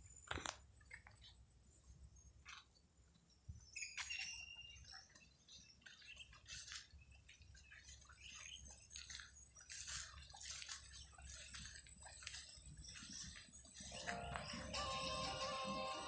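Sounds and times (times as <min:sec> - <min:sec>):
soft rustles and ticks: 0:00.0 - 0:14.6.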